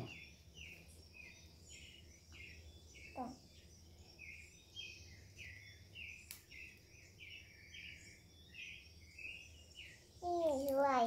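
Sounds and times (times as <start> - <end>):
faint bird chirping: 0.0 - 11.0.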